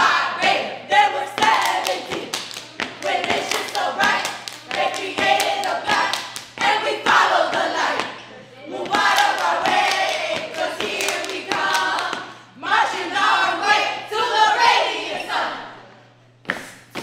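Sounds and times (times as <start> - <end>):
women chanting in unison: 0.0 - 15.8.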